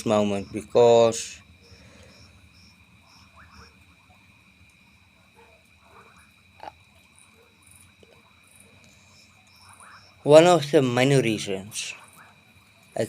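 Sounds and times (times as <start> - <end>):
frogs and insects calling: 0.0 - 13.0.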